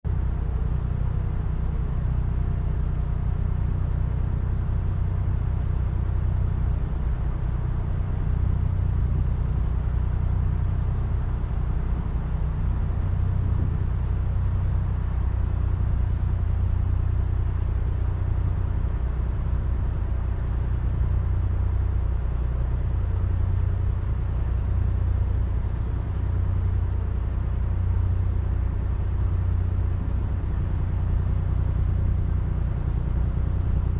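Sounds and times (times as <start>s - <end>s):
boat diesel engine rumbling: 0.1s - 33.9s.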